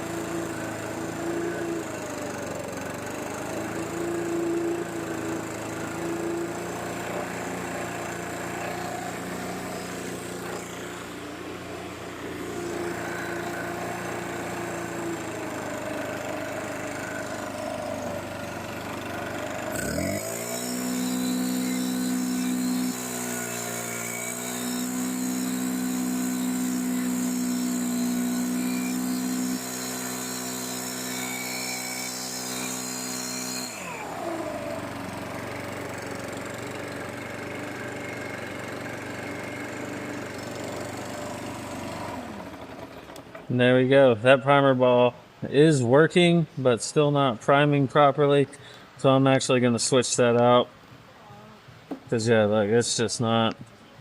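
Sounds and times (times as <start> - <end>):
leaf blower engine revving: 0.0 - 43.6.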